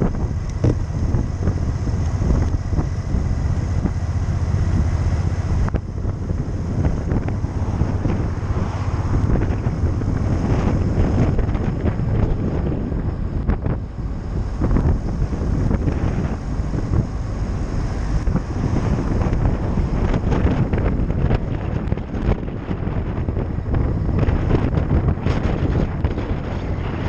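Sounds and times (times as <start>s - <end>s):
motorcycle engine: 0.0s - 27.0s
road noise: 0.0s - 27.0s
wind buffeting microphone: 0.0s - 27.0s.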